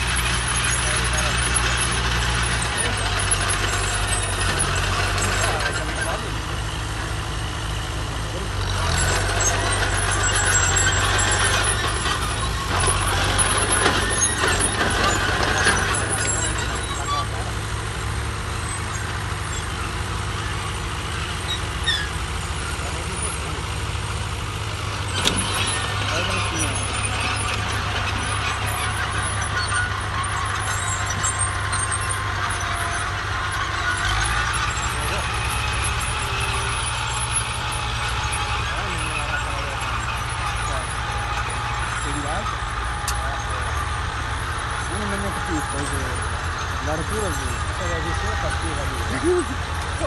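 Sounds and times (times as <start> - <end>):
second tractor engine: 0.0 - 50.0
steel tracks clinking and rattling: 0.0 - 50.0
tractor diesel engine running: 0.0 - 50.0.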